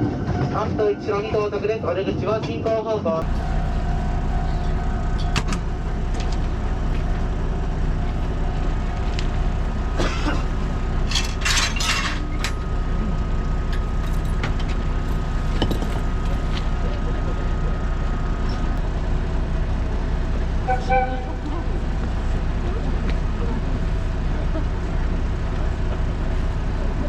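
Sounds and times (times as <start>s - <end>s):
train low rumble and hum: 0.0s - 27.0s.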